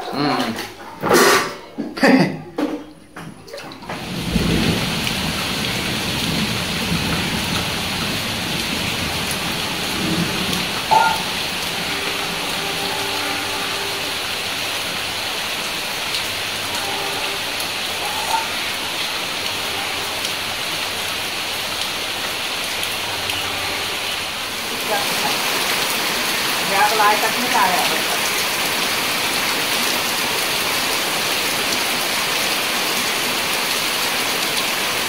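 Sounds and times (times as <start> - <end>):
steady rain on pavement: 3.9 - 35.0.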